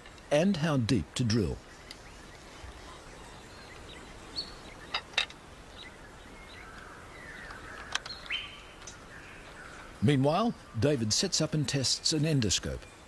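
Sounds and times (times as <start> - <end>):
faint bird chirps: 1.2 - 13.0.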